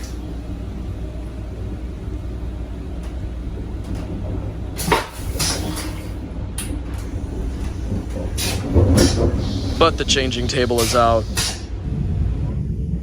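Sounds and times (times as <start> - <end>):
restroom fittings clunking: 0.0 - 11.8
passenger car rumble: 0.0 - 12.8.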